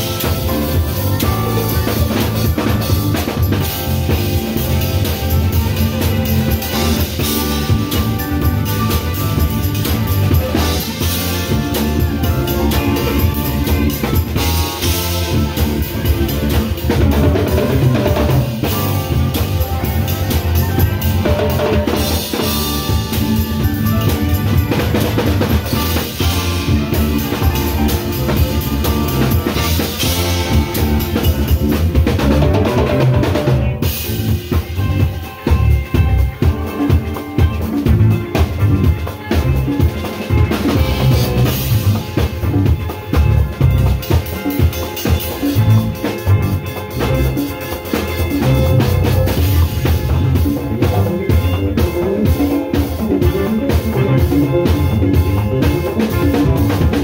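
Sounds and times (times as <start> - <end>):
drums struck in busy rhythm: 0.0 - 57.0
live band music: 0.0 - 57.0.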